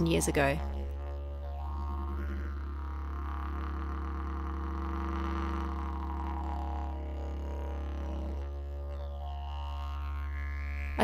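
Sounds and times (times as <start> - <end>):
didgeridoo drone: 0.0 - 11.0.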